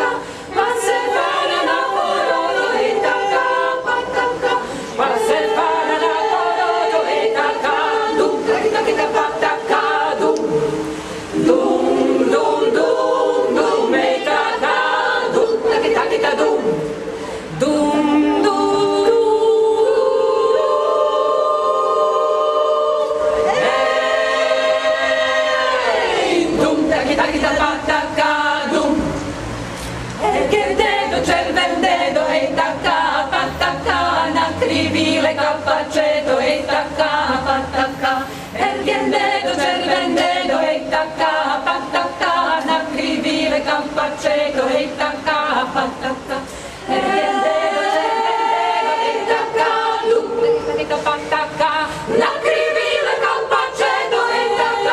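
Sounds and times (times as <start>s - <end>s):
women's choir singing a cappella: 0.0s - 54.9s.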